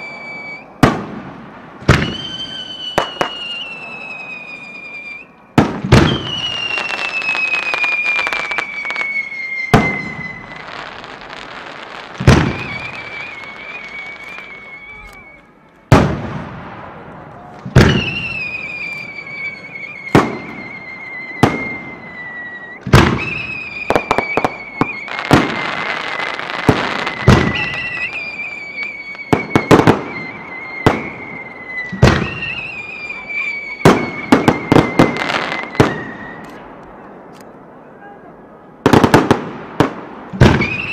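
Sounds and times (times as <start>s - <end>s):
firework whistle falling in pitch: 0.0s - 0.8s, 1.9s - 16.2s, 17.2s - 36.9s, 40.5s - 40.9s
firework booms: 0.0s - 4.7s, 5.5s - 15.2s, 15.9s - 37.3s, 38.8s - 40.9s
crackling hiss: 0.0s - 38.2s.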